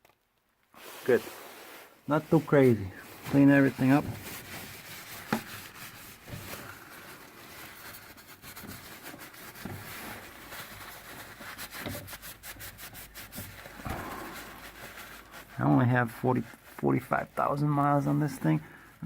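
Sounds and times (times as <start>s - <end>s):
quick scrubbing strokes: 0.8s - 18.6s
rag wiping and rubbing: 0.8s - 18.7s.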